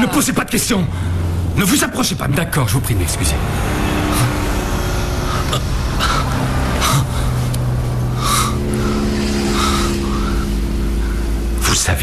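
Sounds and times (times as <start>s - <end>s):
low steady drone: 0.0s - 12.0s.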